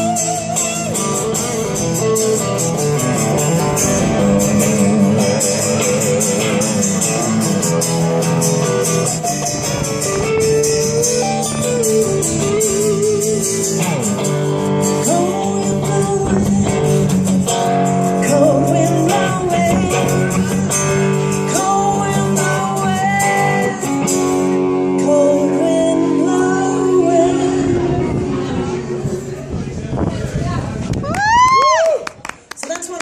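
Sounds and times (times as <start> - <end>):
blues guitar strummed chords: 0.0 - 30.2
lead guitar bent notes: 0.0 - 30.4.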